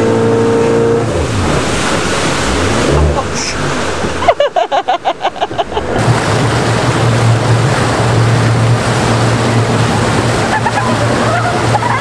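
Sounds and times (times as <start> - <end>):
motorboat engine humming: 0.0 - 12.0
rushing water and wind: 0.0 - 12.0.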